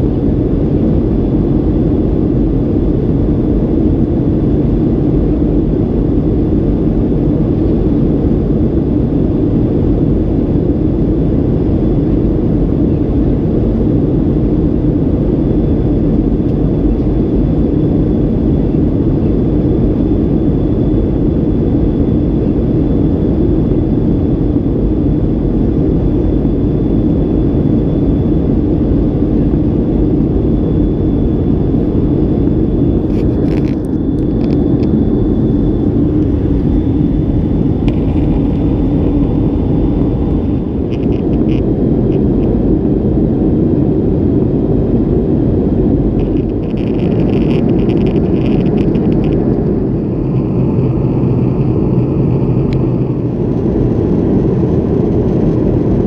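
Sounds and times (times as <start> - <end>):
airplane cabin engine rumble: 0.0 - 56.0
faint high whine: 0.0 - 56.0.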